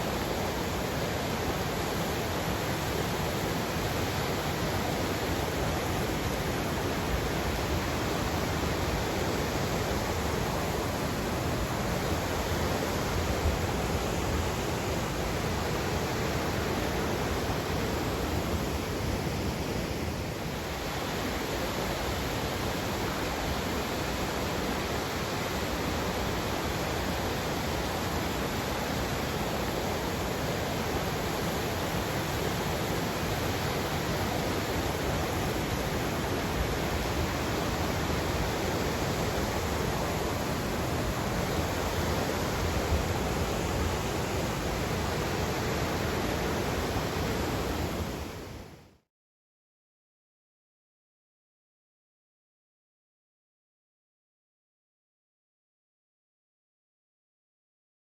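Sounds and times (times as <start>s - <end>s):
river water rushing: 0.0s - 48.8s.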